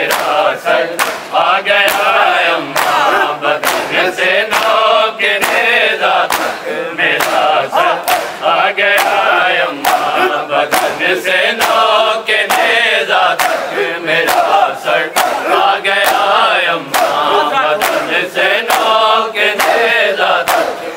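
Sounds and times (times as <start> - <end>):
crowd beating chests: 0.0 - 20.9
men chanting: 0.0 - 20.9.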